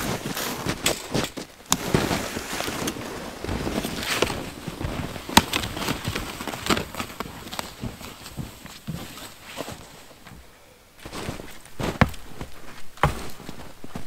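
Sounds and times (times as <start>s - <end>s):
footsteps crunching through snow: 0.0s - 10.4s, 11.0s - 14.0s.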